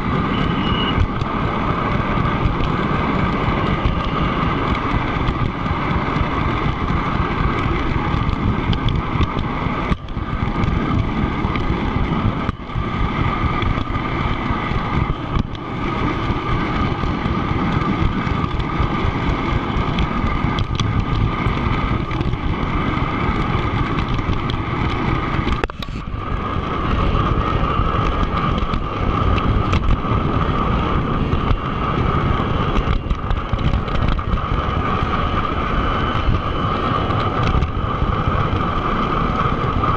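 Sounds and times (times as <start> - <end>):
constant hum: 0.0 - 39.9
model train wheels rolling on rails: 0.0 - 39.9.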